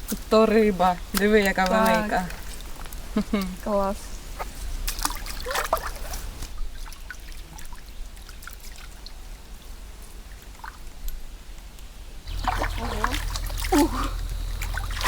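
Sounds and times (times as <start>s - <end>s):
water trickling: 0.0s - 4.1s, 4.8s - 10.9s, 12.3s - 15.0s.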